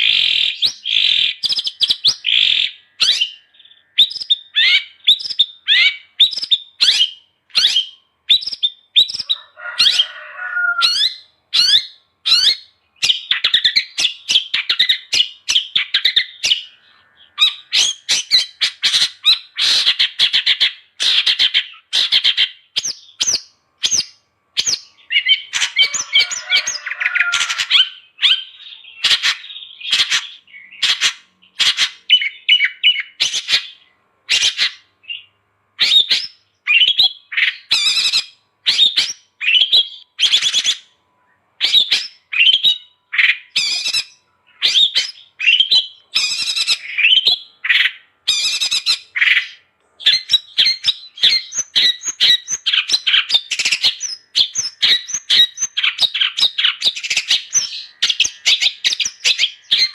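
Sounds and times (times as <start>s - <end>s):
bird chattering and whistling: 0.0s - 41.0s, 41.6s - 59.9s.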